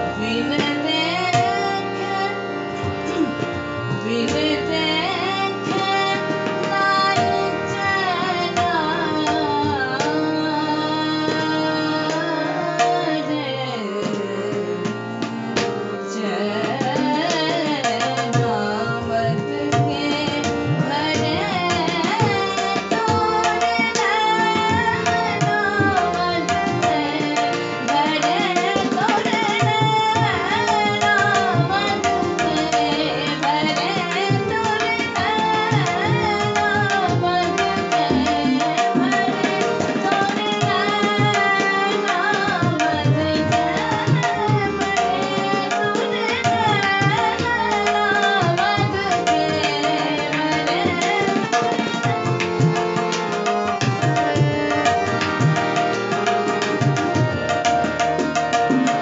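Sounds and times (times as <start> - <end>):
woman singing: 0.0 - 55.6
steady held drone: 0.0 - 56.8.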